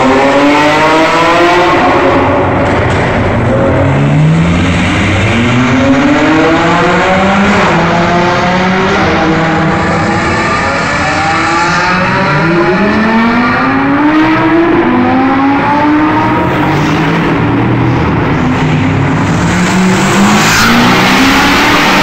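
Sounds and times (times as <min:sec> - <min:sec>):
car engines accelerating hard: 0:00.0 - 0:22.0.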